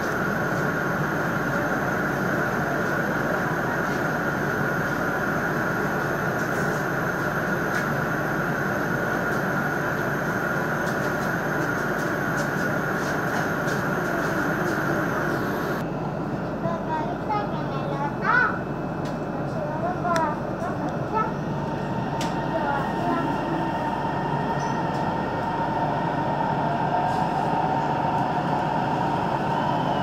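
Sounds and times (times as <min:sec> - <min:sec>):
electric train humming: 0:00.0 - 0:17.2, 0:17.8 - 0:30.0.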